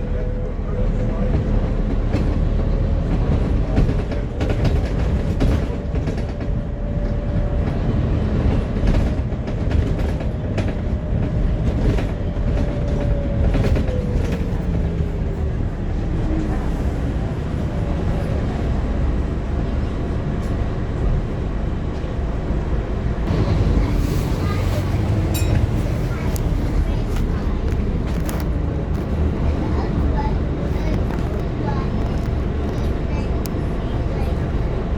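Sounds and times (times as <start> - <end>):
bus engine and road rumble: 0.0 - 34.9
bus whine: 0.0 - 34.9.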